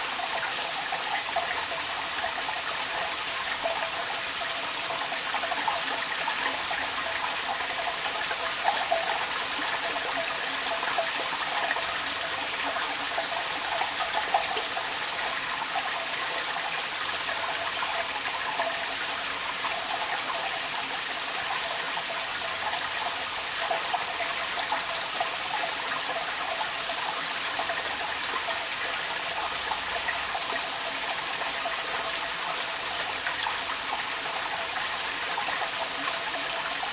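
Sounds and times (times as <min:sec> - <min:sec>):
water trickling from downpipe: 0:00.0 - 0:36.9.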